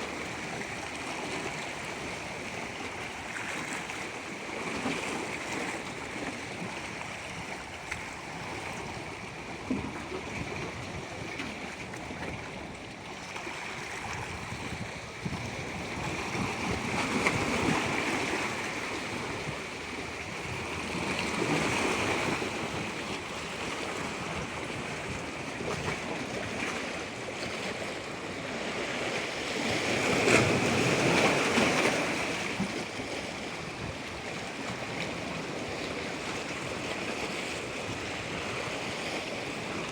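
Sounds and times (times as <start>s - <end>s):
waves washing in: 0.0s - 39.9s.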